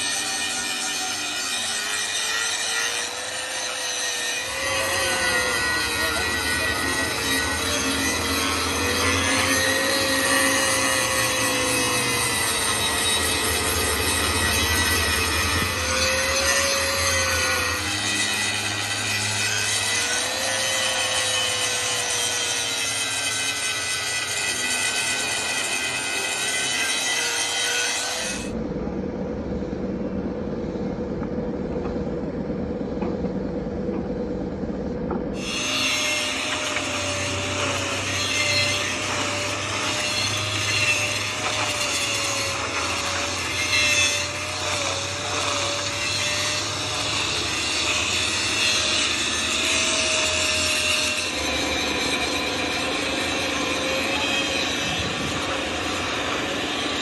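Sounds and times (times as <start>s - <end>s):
angle grinder cutting steel: 0.0s - 28.6s, 35.4s - 57.0s.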